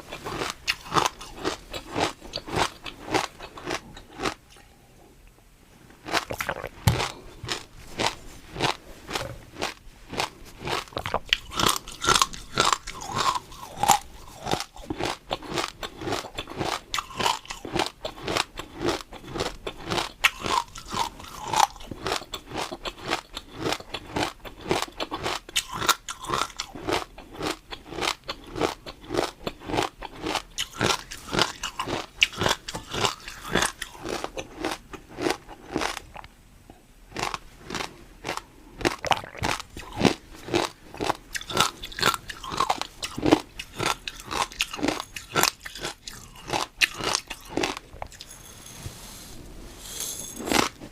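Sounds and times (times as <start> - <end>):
crunchy food being chewed: 0.0 - 4.8, 6.0 - 48.3, 50.4 - 50.9.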